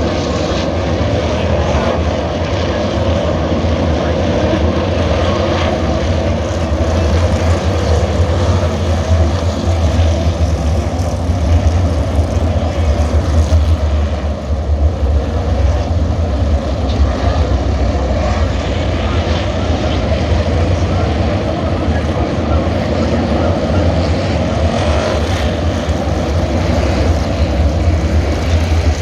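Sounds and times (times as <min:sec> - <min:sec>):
engines rumbling: 0:00.0 - 0:29.0.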